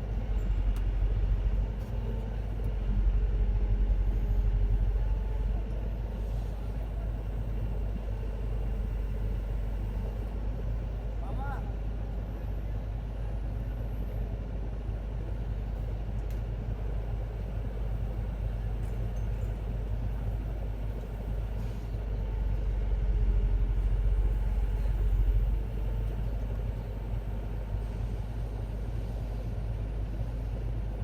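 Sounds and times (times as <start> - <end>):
excavator diesel engine rumble: 0.0 - 31.0.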